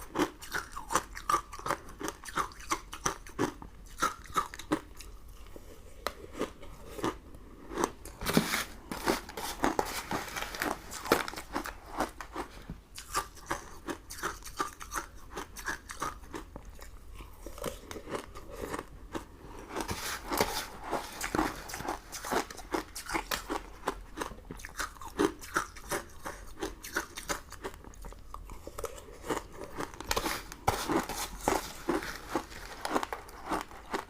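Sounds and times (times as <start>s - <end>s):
crunching and chewing candy: 0.0s - 34.0s.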